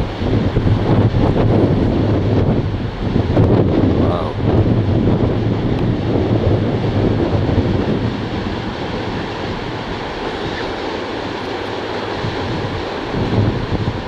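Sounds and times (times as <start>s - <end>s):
surf breaking: 0.0s - 14.0s
wind buffeting microphone: 0.0s - 14.0s.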